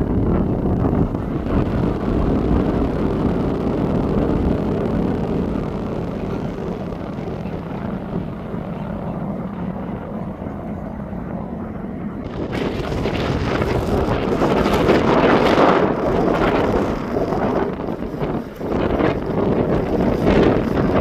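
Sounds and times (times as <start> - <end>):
loud rushing noise: 0.0 - 10.2, 11.2 - 21.0
jet engine rumble: 0.0 - 21.0.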